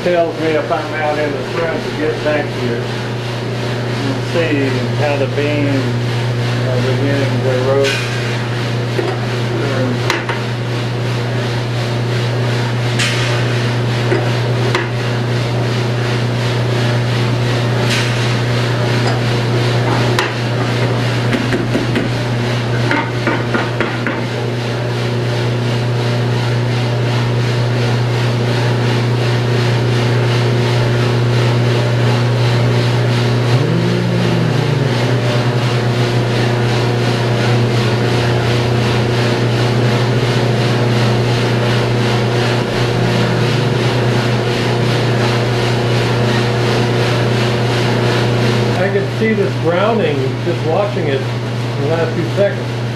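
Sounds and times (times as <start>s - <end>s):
coffee roaster machine hum: 0.0s - 52.9s.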